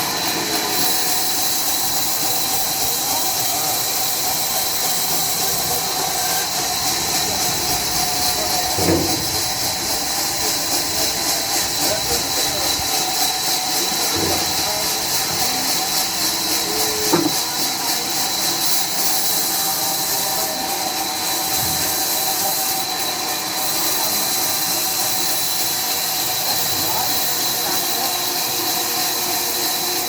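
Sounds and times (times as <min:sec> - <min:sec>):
sawmill machinery hissing: 0:00.0 - 0:30.0.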